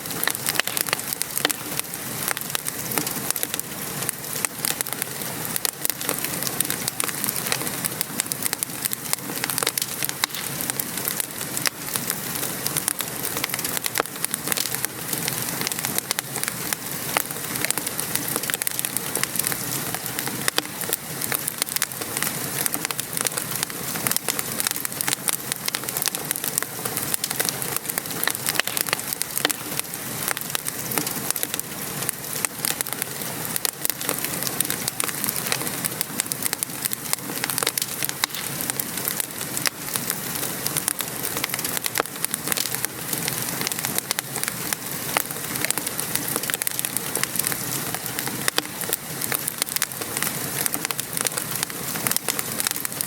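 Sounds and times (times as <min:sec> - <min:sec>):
steady rain hissing: 0:00.0 - 0:53.0
wood fire crackling: 0:00.0 - 0:53.0.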